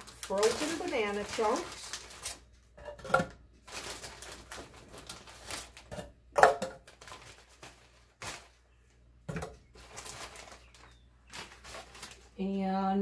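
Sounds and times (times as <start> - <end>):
plastic bag crinkling: 0.0 - 2.8, 3.6 - 6.0, 6.8 - 12.6.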